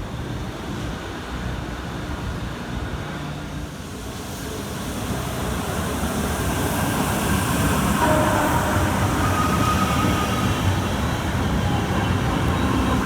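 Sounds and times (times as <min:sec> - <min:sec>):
high multi-tone train whine: 0:00.0 - 0:13.0
train rumble approaching: 0:00.0 - 0:13.0.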